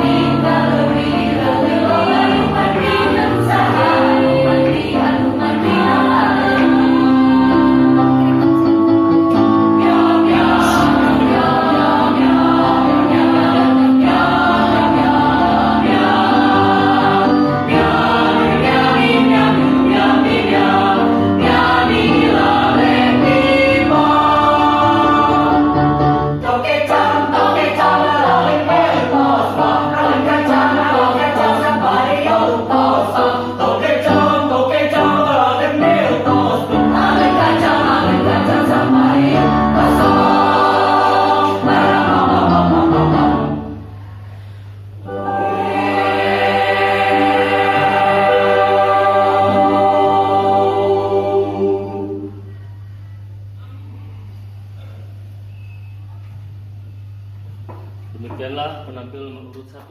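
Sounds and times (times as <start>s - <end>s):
mixed choir singing a cappella: 0.0s - 52.7s.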